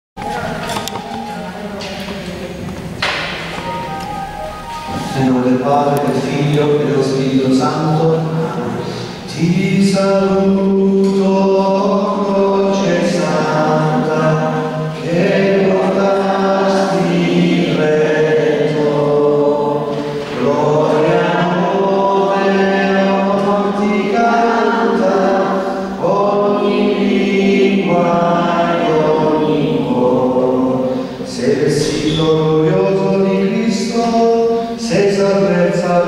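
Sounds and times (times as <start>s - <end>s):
congregation singing a hymn: 0.2s - 36.0s.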